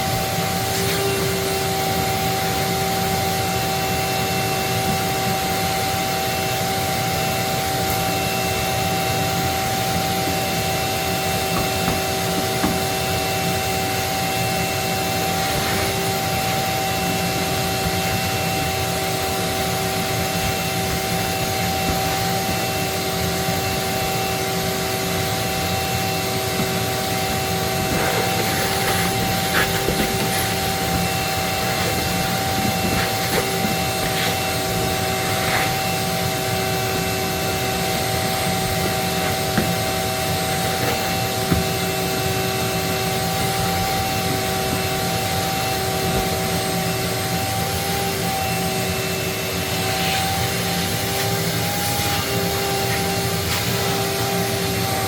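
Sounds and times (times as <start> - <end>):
vacuum cleaner whining: 0.0 - 55.0.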